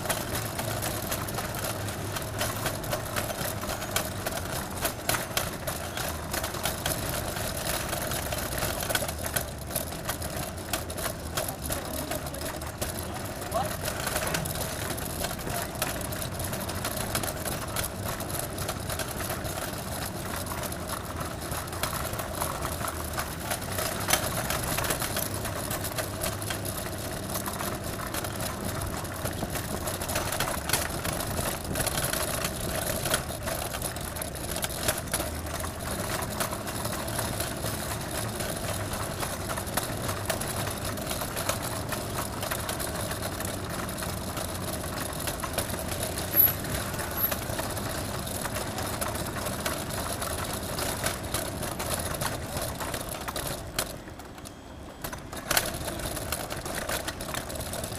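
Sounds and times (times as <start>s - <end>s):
steady traffic: 0.0s - 57.9s.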